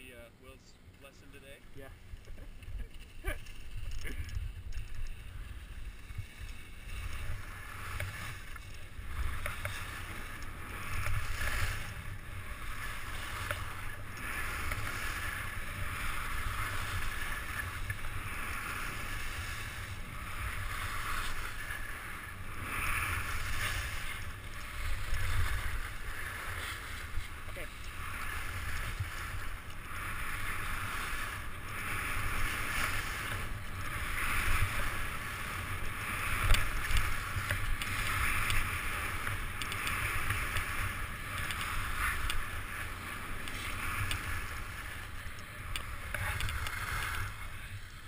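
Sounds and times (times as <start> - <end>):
skis scraping over snow: 1.0 - 48.0
wind rumble on microphone: 2.0 - 48.0.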